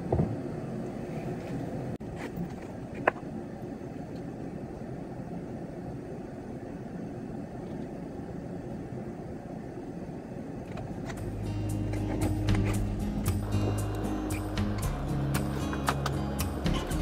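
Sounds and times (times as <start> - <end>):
low rumbling room noise: 0.0 - 17.0.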